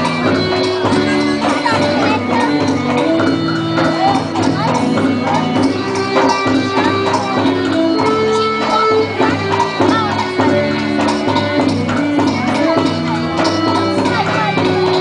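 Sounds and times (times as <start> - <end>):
instrumental folk dance music: 0.0 - 15.0.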